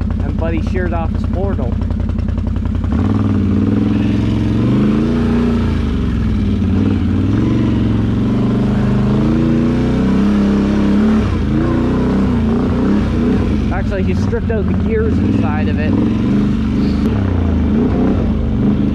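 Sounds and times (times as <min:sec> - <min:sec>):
atv engine revving: 0:00.0 - 0:18.9.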